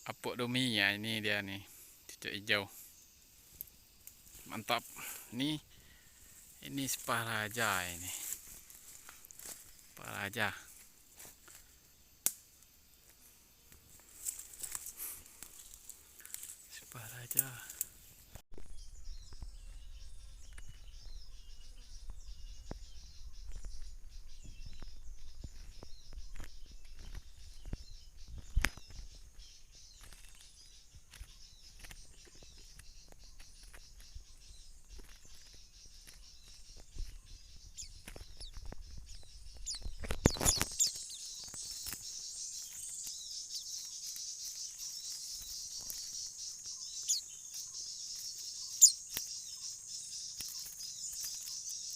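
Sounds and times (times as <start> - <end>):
high insect drone: 0.0 - 51.9
small birds chirping: 0.0 - 51.9.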